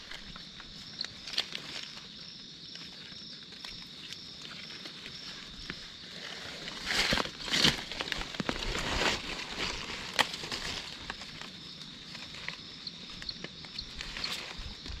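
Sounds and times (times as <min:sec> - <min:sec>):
dry leaves crunching underfoot: 0:00.0 - 0:02.2, 0:02.8 - 0:15.0.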